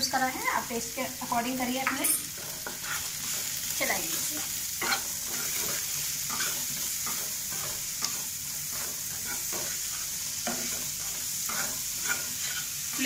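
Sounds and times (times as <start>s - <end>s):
masala sizzling in oil: 0.0s - 13.0s
spatula scraping pan: 2.0s - 13.0s.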